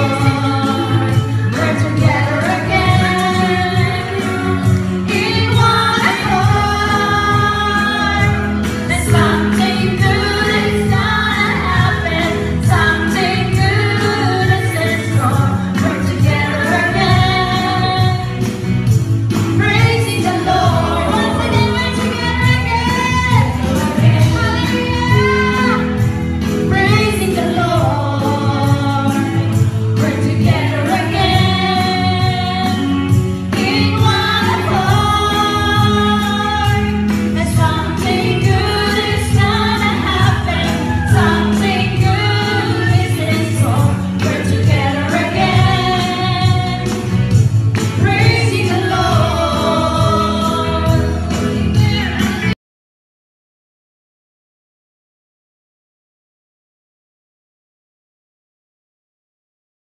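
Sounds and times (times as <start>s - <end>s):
women singing worship song: 0.0s - 18.6s, 19.5s - 52.6s.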